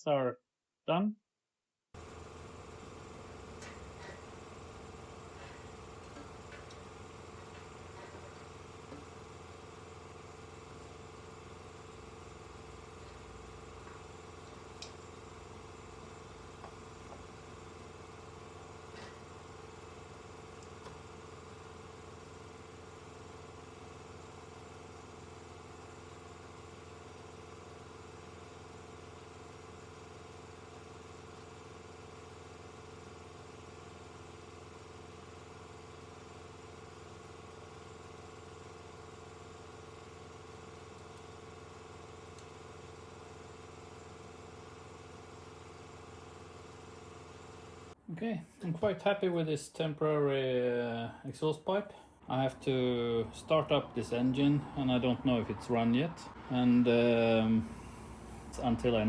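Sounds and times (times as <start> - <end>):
low mechanical hum: 2.0 - 59.0.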